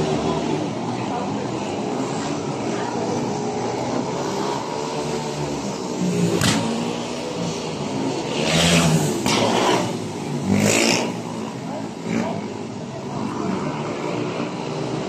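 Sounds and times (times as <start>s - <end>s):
motorcycle engines racing: 0.0s - 15.0s.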